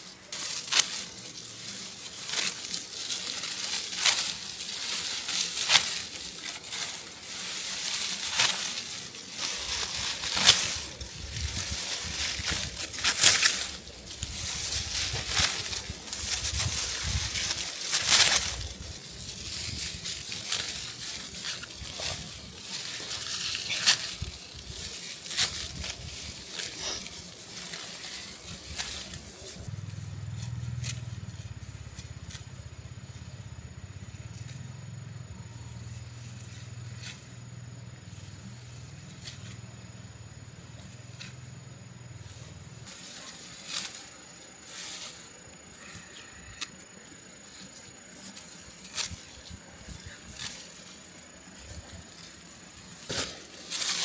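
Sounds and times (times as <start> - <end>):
dry rice stalks rustling: 0.0 - 54.0.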